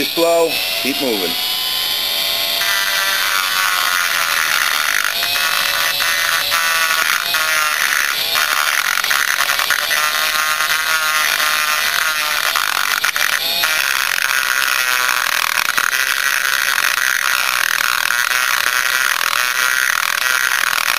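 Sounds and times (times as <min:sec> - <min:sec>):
rotary grinder whining: 0:00.0 - 0:20.9.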